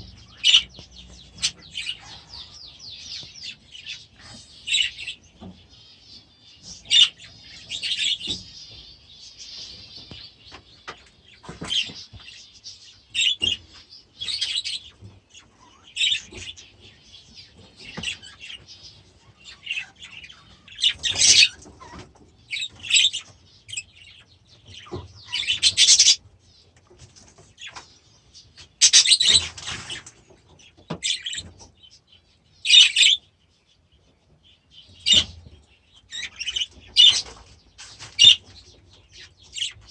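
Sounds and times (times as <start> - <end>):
budgies chirping: 0.0 - 39.9.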